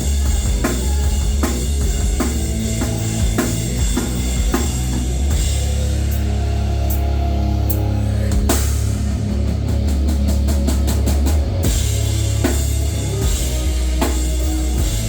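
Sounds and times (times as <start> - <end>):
live rock band playing: 0.0 - 15.0
sustained low chord: 1.3 - 15.0.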